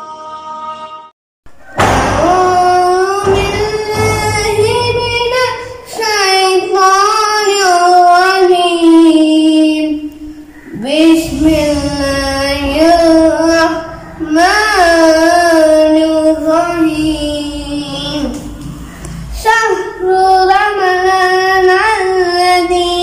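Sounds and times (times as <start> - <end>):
boy chanting recitation: 2.1 - 23.0.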